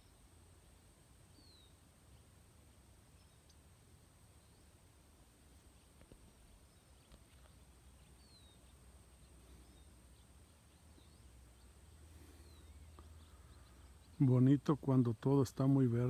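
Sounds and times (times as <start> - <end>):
faint bird chirps: 0.0 - 16.0
low steady rumble: 0.0 - 16.0.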